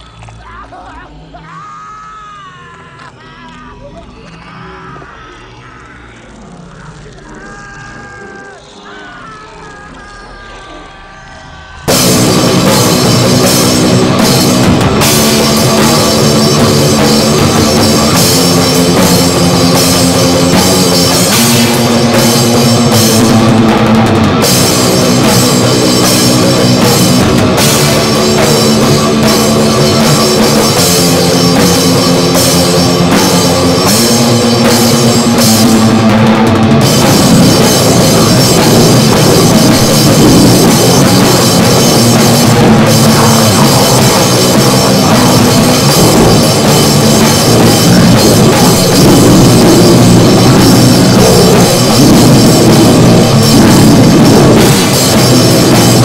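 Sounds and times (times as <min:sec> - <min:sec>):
bass: 0:00.0 - 0:10.0, 0:11.8 - 0:56.0
heavily distorted guitar riffs: 0:02.9 - 0:56.0
fast pounding drums: 0:03.8 - 0:56.0.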